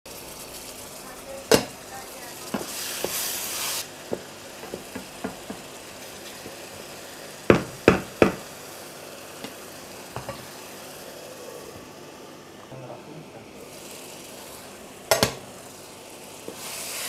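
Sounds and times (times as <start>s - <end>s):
sizzle in frying pan: 0.1s - 17.0s.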